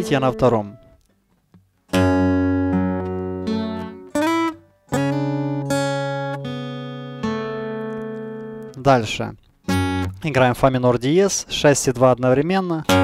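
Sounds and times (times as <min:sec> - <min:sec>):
acoustic guitar fingerpicked: 0:00.0 - 0:10.9, 0:12.8 - 0:13.0.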